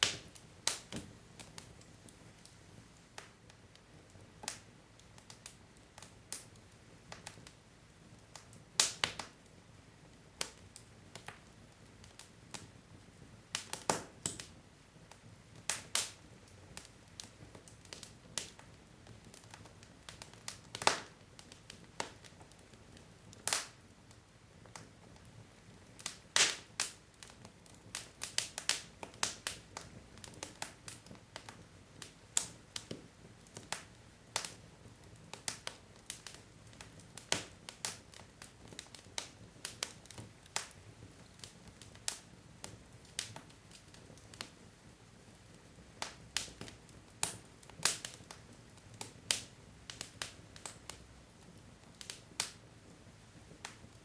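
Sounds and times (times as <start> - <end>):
logs crackling and popping: 0.0 - 12.8, 13.5 - 54.0
faint hiss of fire: 0.0 - 54.0.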